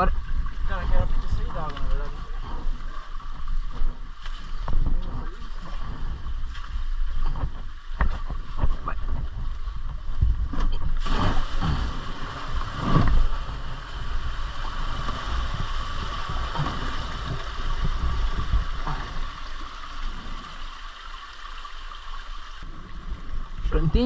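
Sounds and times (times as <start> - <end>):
wind rumble on microphone: 0.0 - 20.8, 22.5 - 24.0
water sloshing and splashing: 0.0 - 24.0.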